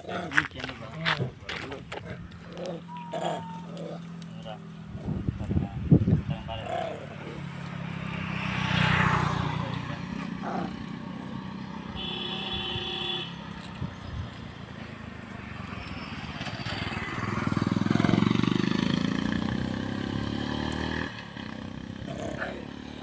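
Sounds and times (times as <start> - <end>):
vehicle engine passing: 0.0 - 23.0.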